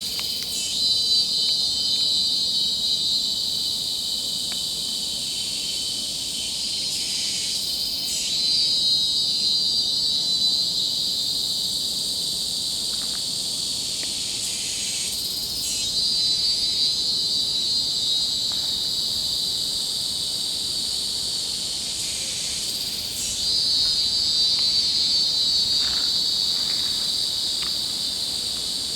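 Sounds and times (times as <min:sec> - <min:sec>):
insects buzzing shrilly: 0:00.0 - 0:28.9.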